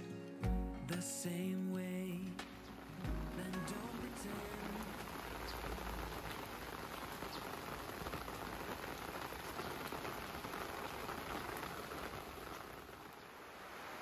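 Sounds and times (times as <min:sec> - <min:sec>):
rain on paving and plants: 0:01.3 - 0:14.0.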